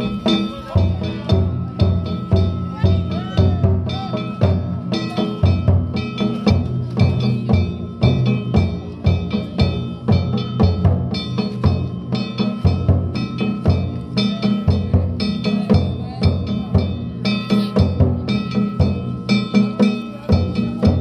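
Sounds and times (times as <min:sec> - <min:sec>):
big drum beaten rhythmically: 0:00.0 - 0:21.0
hand gongs clanging: 0:00.0 - 0:21.0.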